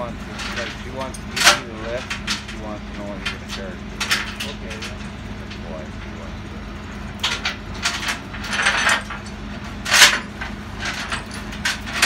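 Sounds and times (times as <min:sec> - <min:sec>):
metallic clanks and rattles: 0:00.0 - 0:12.0
truck engine idling: 0:00.0 - 0:12.0.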